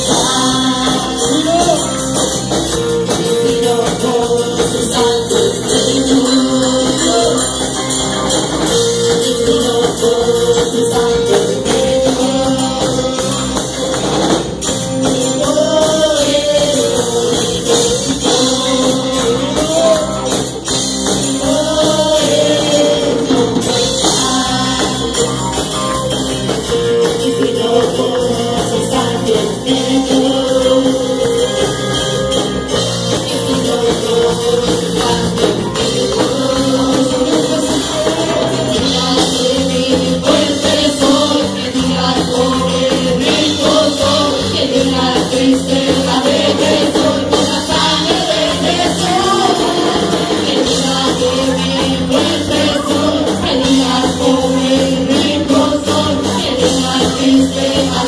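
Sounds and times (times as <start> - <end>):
drum kit: 0.0 - 58.0
keyboard: 0.0 - 58.0
singers singing melody: 0.0 - 58.0
worship band playing: 0.0 - 58.0.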